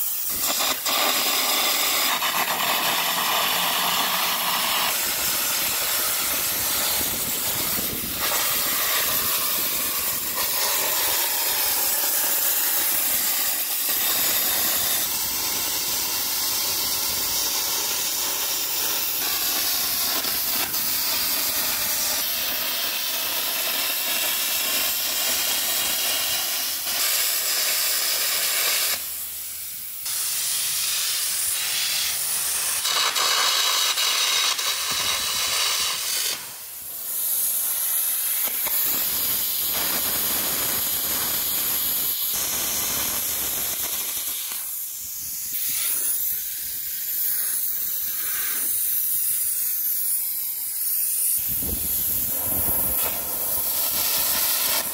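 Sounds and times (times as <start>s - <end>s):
compressed air jet hissing: 0.0s - 54.9s
electric arc crackling: 0.0s - 54.9s.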